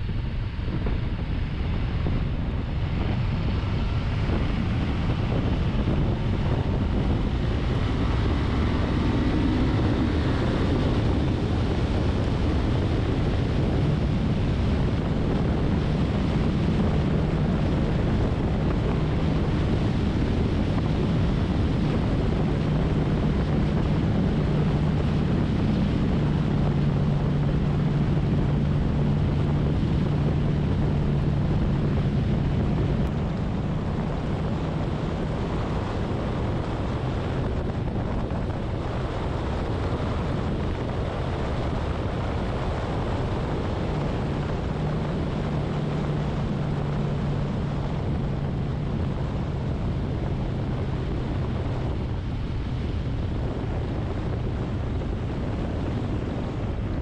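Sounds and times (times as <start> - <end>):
low engine hum: 0.0 - 57.0
wind rumbling on microphone: 0.0 - 57.0.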